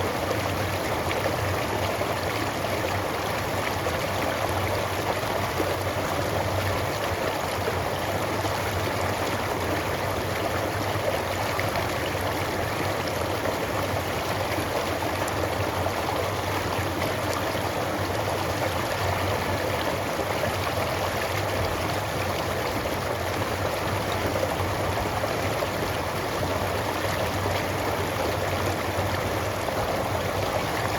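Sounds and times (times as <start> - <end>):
creek bubbling over stones: 0.0 - 30.9.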